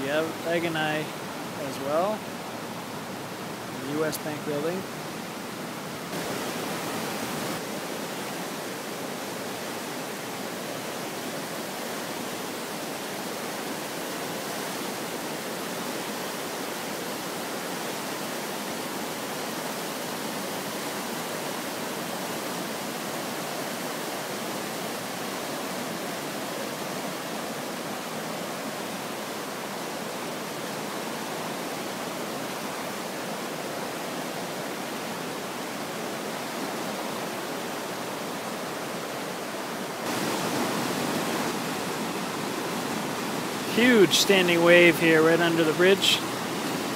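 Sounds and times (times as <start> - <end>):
flood water rushing: 0.0 - 46.9.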